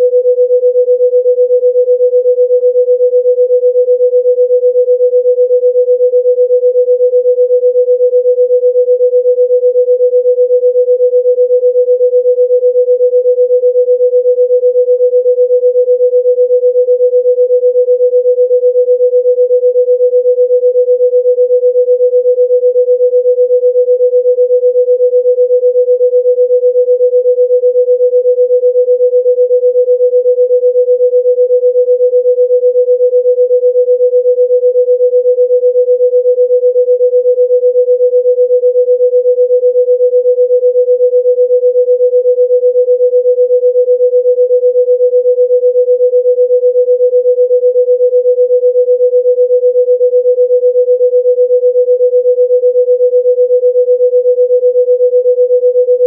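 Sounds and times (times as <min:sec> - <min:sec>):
steady electronic sine tone: 0:00.0 - 0:56.0.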